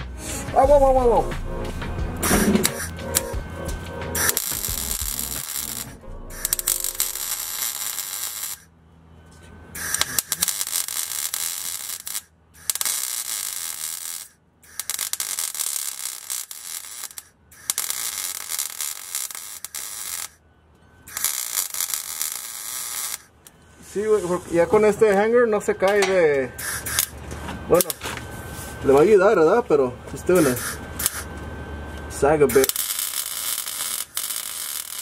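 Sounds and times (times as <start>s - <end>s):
welder crackling and buzzing: 0.2s - 8.7s, 9.7s - 20.4s, 21.0s - 35.0s.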